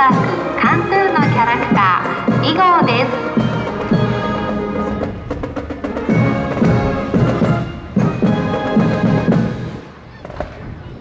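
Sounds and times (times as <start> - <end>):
drum strokes: 0.0 - 10.6
marching brass band: 0.0 - 11.0.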